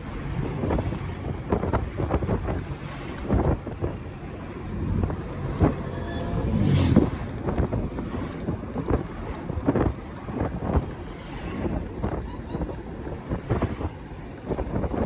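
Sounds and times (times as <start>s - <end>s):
truck engine rumble: 0.0s - 15.0s
wind buffeting microphone: 0.0s - 15.0s.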